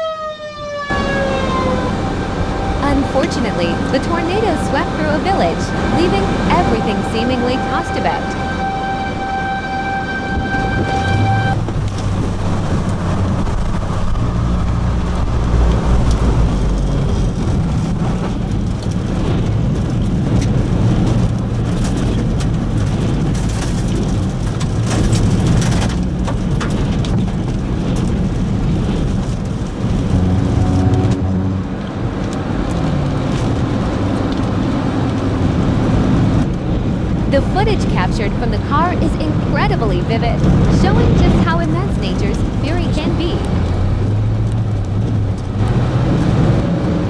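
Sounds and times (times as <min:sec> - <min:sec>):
tornado wind roaring: 0:00.0 - 0:47.0.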